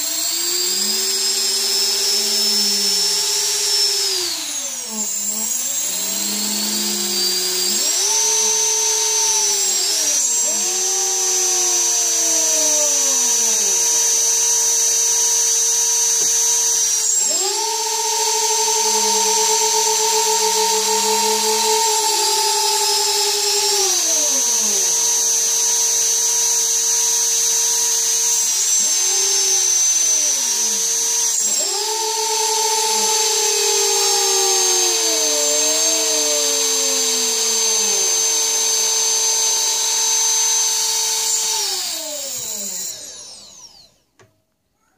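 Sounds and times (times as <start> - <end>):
drone motors whining: 0.0 - 44.1.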